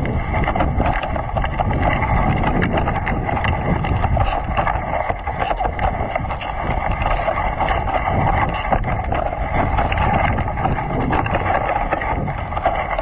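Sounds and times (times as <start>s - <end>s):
sled runners scraping snow: 0.0s - 13.0s
wind on microphone: 0.0s - 13.0s.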